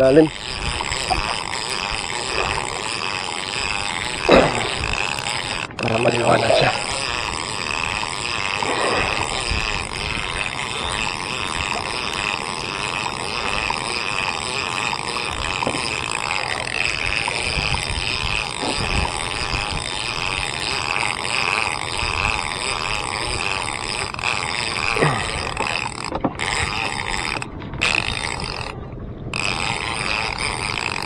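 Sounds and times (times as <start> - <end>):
boat engine drone: 0.0 - 31.0
fishing reel cranking: 0.0 - 31.0
water: 0.0 - 31.0
wind: 0.0 - 31.0.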